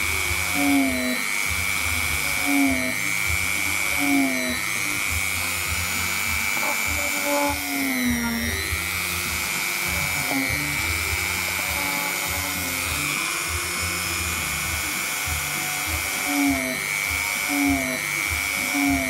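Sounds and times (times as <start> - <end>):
rotary tool whining: 0.0 - 19.0.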